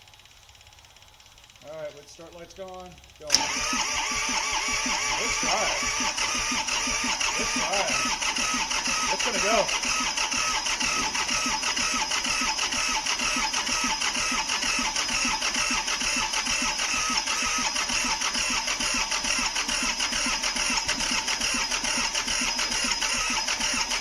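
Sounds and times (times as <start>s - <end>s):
starter motor cranking diesel engine: 0.0s - 24.0s.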